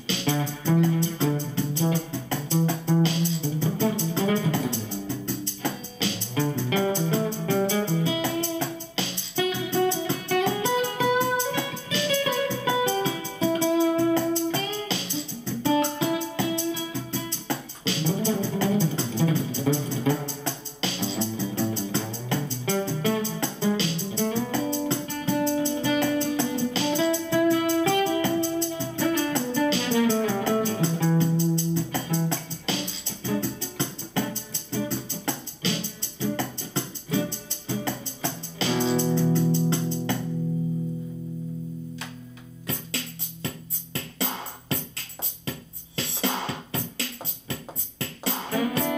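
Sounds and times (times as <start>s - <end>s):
overdriven acoustic guitar melody: 0.0s - 44.2s, 48.4s - 48.9s.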